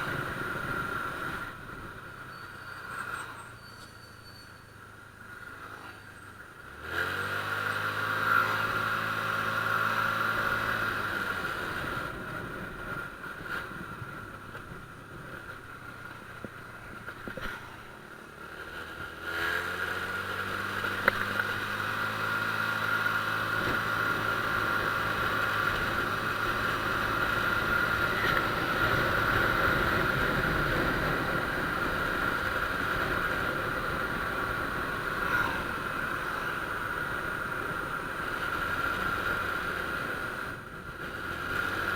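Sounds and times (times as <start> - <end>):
scooter engine accelerating: 5.3 - 41.9.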